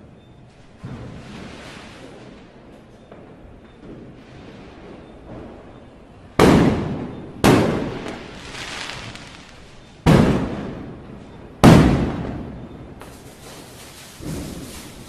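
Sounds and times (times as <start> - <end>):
fireworks bangs: 0.7 - 15.0.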